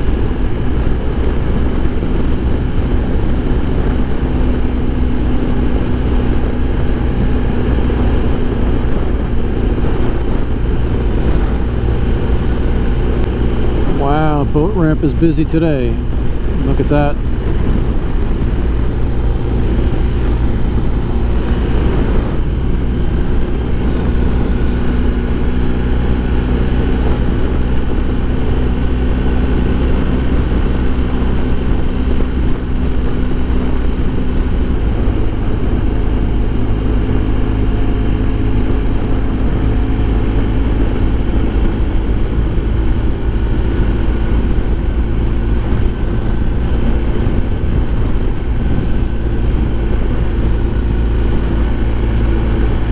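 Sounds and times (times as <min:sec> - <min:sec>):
low wind rush on microphone: 0:00.0 - 0:52.9
motorcycle engine running: 0:00.0 - 0:52.9.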